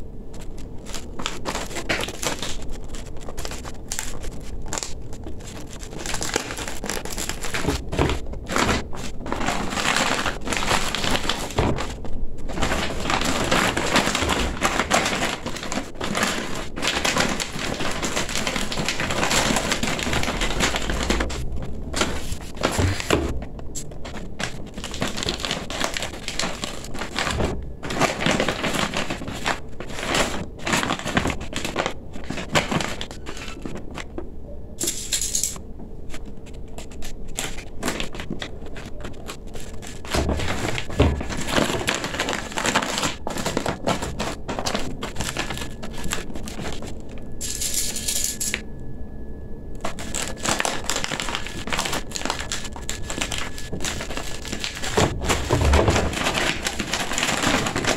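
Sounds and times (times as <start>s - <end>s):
stiff fabric crinkling: 0.0s - 34.2s, 36.1s - 47.4s, 49.8s - 57.9s.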